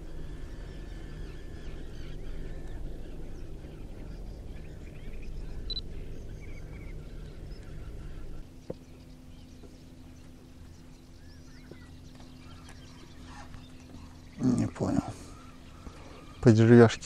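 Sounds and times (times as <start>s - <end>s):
faint low hum: 0.0s - 17.0s
low wind rumble: 0.0s - 17.0s
small birds chirping: 0.0s - 17.0s.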